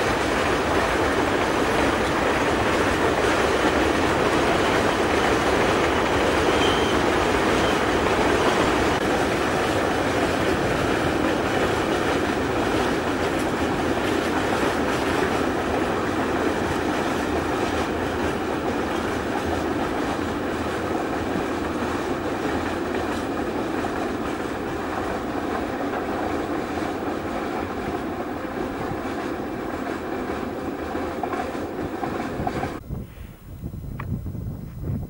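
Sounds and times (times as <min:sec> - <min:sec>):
freight wagons rolling on rails: 0:00.0 - 0:32.8.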